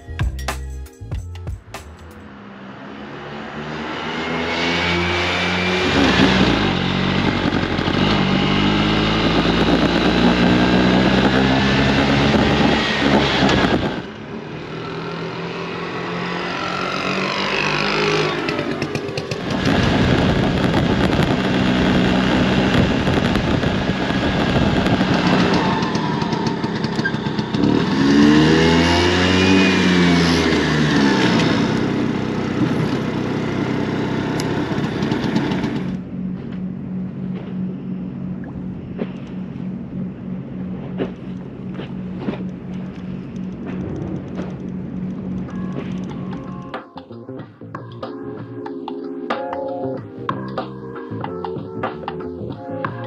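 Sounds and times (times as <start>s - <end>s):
scooter engine revving: 2.1s - 47.9s.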